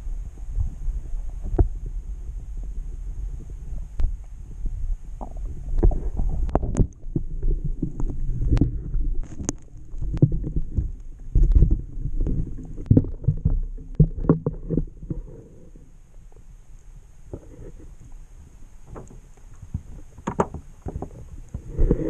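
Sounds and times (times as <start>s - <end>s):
muffled underwater rumbling: 0.0s - 22.0s.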